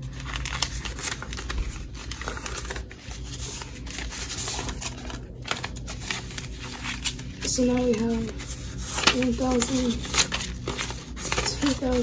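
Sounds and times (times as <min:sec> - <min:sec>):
bills flicking and clicking: 0:00.0 - 0:12.0
paper banknotes rustling: 0:00.0 - 0:12.0.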